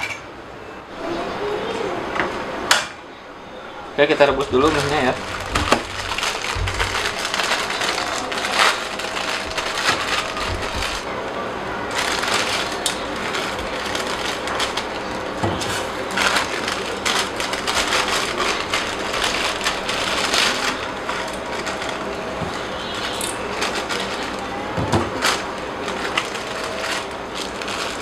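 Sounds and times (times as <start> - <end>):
plastic packets crinkling and tearing: 4.0 - 11.1, 11.9 - 28.0.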